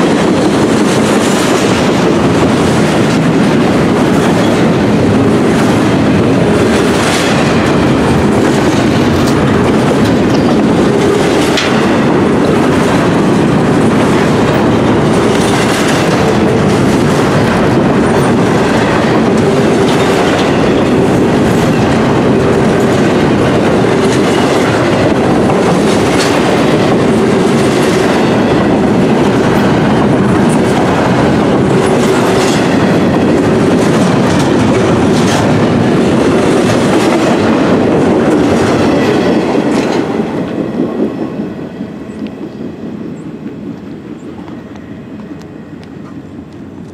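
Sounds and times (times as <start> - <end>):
freight train wheels rumbling on rail: 0.0 - 46.9
wheel clacks: 0.1 - 40.1.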